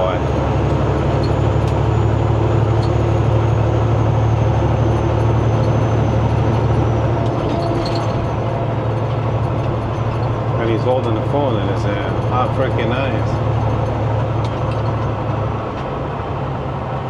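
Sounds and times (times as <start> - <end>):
diesel truck engine drone: 0.0 - 17.0.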